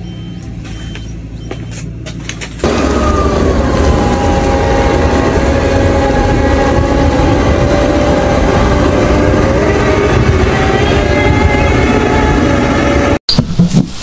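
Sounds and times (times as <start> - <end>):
vehicle engine whine and rumble: 0.0 - 13.9.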